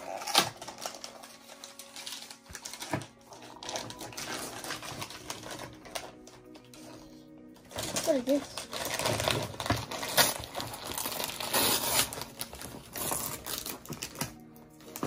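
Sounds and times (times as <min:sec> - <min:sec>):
wrapping paper crinkling and tearing: 0:00.0 - 0:15.0.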